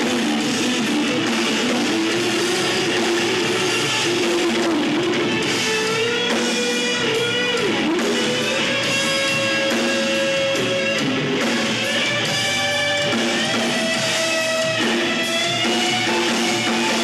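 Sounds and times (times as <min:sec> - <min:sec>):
lead guitar line: 0:00.0 - 0:17.0
rock band playing: 0:00.0 - 0:17.0.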